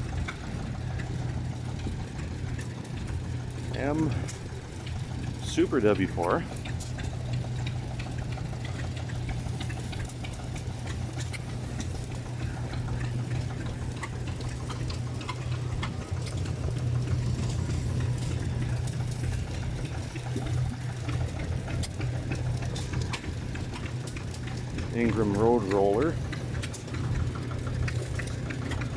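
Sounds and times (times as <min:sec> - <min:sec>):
engine idling: 0:00.0 - 0:28.9.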